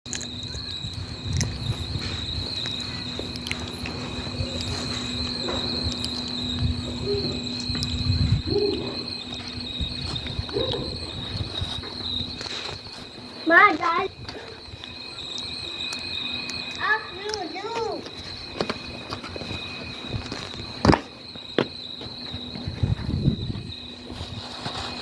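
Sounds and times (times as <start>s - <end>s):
high-pitched insect trill: 0.1s - 25.0s.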